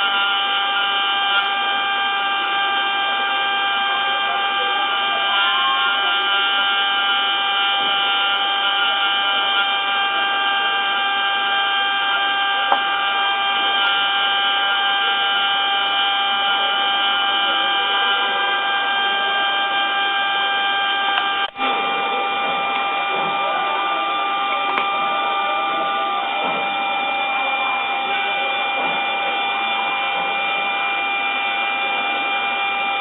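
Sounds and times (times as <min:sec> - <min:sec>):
cnc router whining: 0:00.0 - 0:33.0.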